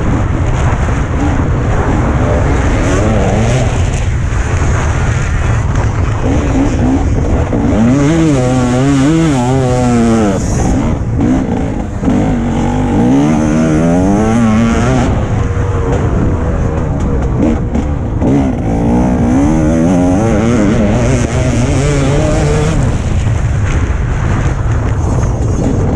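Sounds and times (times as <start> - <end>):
motocross bike engine revving: 0.0 - 24.6
wind and track noise: 0.0 - 25.9.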